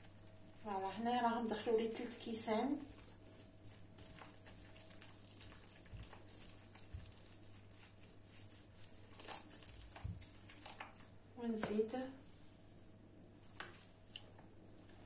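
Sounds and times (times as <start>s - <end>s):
hand mixing wet dough: 0.0s - 11.9s, 13.3s - 15.0s.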